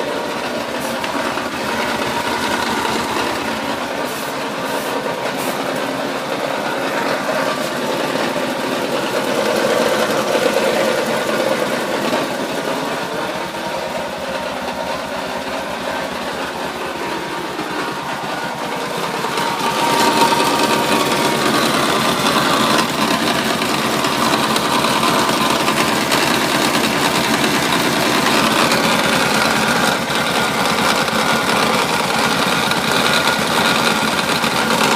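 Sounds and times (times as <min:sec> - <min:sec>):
engine running: 0:00.0 - 0:34.9.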